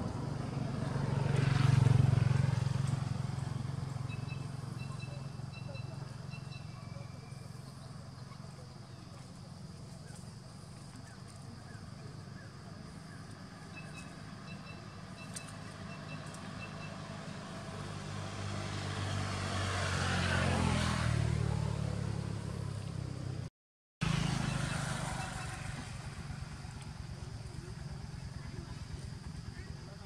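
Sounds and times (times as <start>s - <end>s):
vehicle engine passing by: 0.0s - 30.0s.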